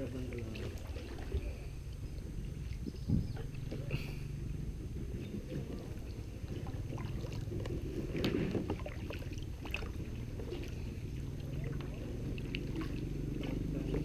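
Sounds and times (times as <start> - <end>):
kayak paddle splashing water: 0.0 - 4.3, 5.1 - 14.0
steady low rumble: 0.0 - 14.0.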